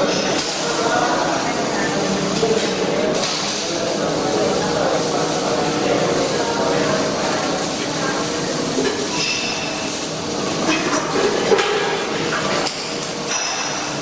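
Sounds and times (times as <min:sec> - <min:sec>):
steady workshop hiss: 0:00.0 - 0:14.0.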